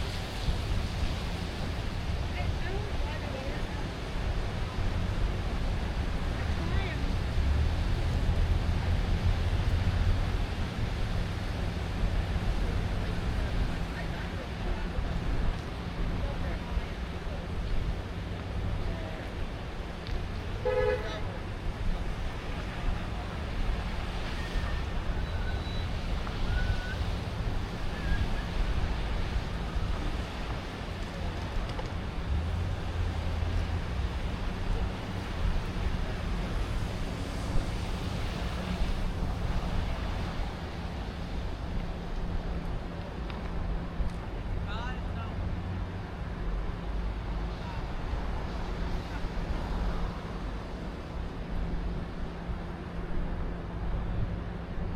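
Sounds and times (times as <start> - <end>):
low rumble of traffic: 0.0 - 54.9.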